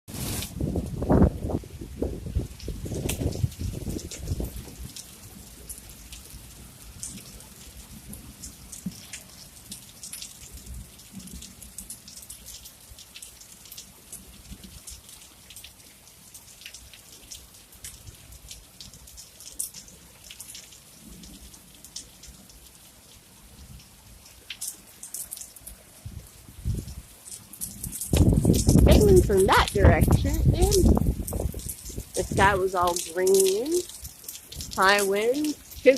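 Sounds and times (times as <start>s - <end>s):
rain drops ticking: 0.1s - 35.9s.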